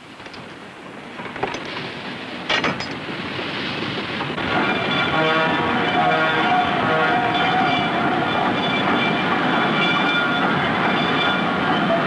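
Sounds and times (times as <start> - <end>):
train rail cars rolling: 0.0 - 12.0.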